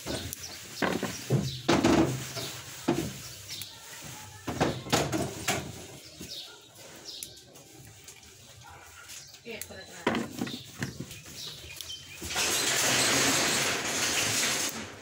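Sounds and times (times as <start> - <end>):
okra pods rustling and knocking: 0.0 - 15.0.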